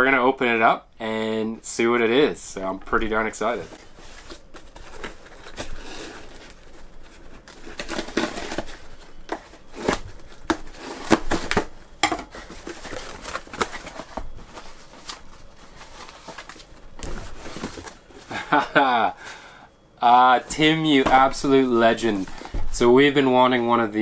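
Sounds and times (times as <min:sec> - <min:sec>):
cardboard flaps rustling: 0:02.8 - 0:19.4, 0:20.0 - 0:23.1.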